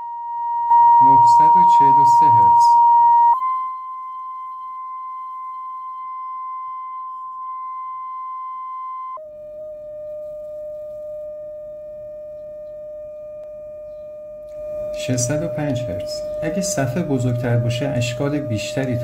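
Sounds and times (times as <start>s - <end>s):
steady pure test tone: 0.0s - 19.0s.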